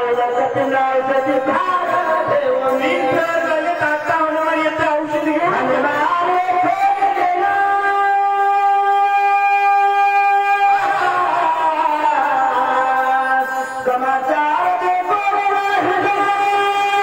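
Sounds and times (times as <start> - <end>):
man singing devotional music: 0.0 - 17.0.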